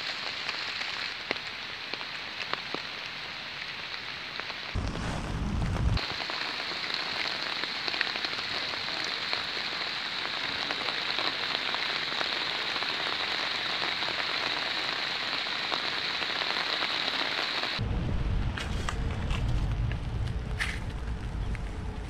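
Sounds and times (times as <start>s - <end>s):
rain on stone paving and leaves: 0.0s - 17.8s.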